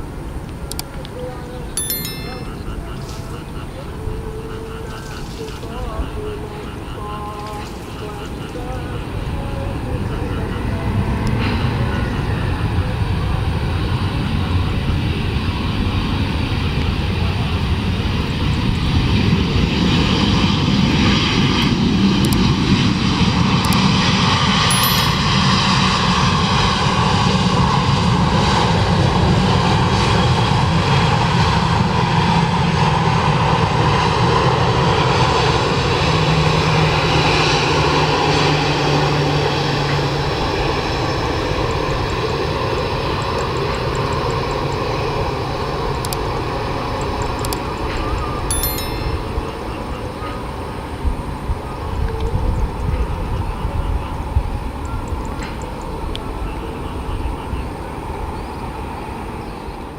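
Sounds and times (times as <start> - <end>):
airliner engines passing: 2.6 - 48.5, 49.2 - 59.9.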